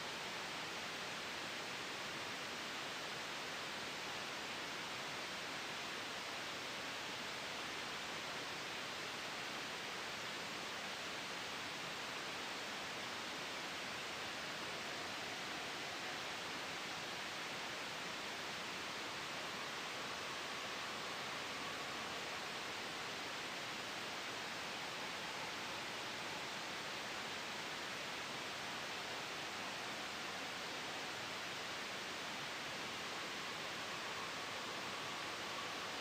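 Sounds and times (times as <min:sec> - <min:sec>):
soft white noise hiss: 0:00.0 - 0:36.0.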